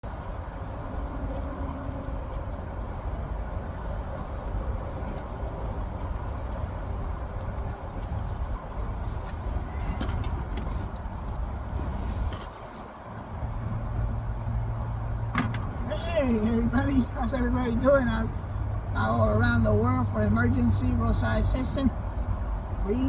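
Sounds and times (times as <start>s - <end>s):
motor vehicle rumble: 0.0s - 23.0s.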